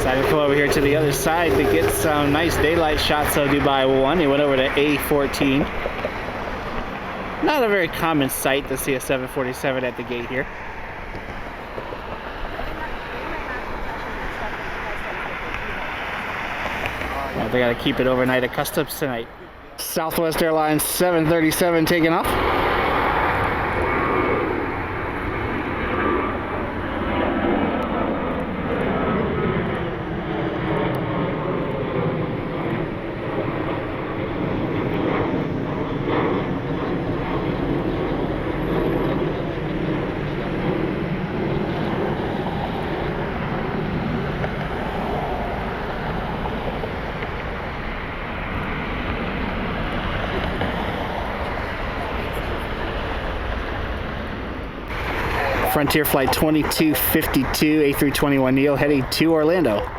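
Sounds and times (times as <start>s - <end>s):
jet plane taking off: 0.0s - 59.9s.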